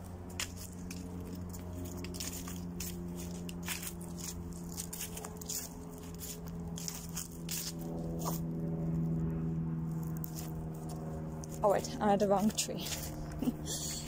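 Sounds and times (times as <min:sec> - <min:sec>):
footsteps crunching dry leaves: 0:00.0 - 0:14.0
steady low hum: 0:00.0 - 0:14.0.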